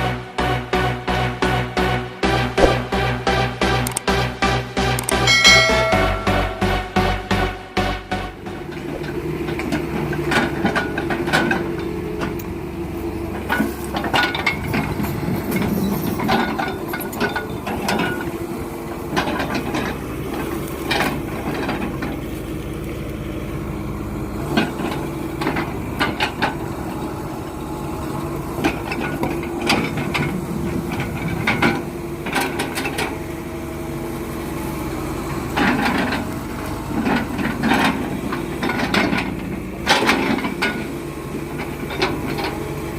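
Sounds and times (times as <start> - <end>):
diesel engine running under load: 0.0 - 5.3, 6.6 - 42.9.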